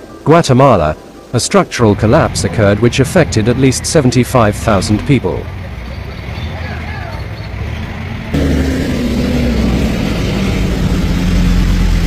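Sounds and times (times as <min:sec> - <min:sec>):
street noise: 0:00.0 - 0:12.0
heavy truck engine running: 0:01.8 - 0:12.0.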